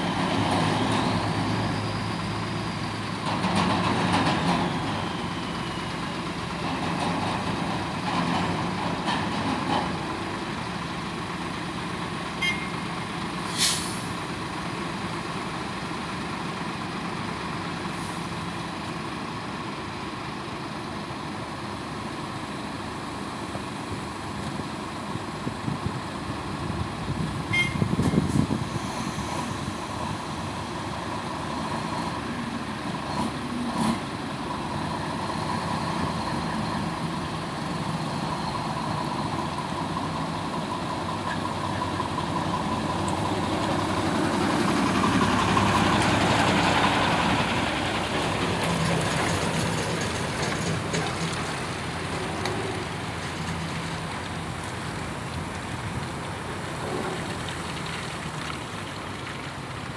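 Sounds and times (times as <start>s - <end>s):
truck diesel engines running: 0.0s - 59.9s.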